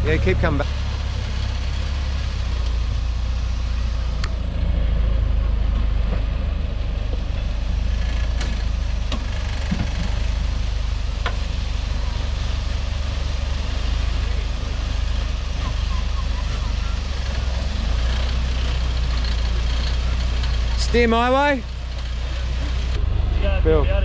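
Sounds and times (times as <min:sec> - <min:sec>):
vehicle engine running at low revs: 0:00.0 - 0:24.0.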